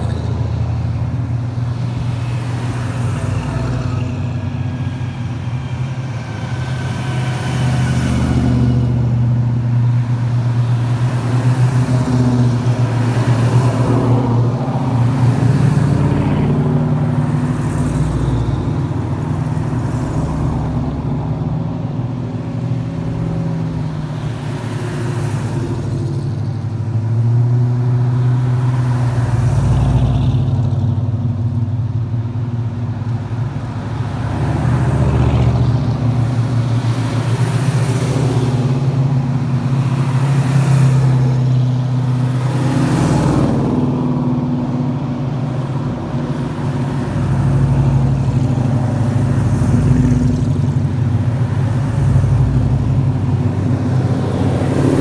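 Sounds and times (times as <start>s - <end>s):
car engines droning: 0.0s - 55.0s
cars driving past: 0.0s - 55.0s.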